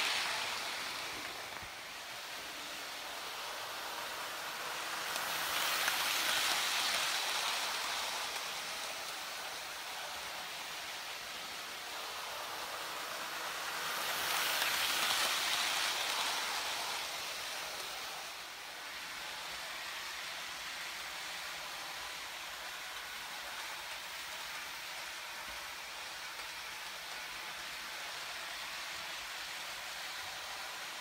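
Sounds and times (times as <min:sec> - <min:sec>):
model train running on track: 0:00.0 - 0:31.0.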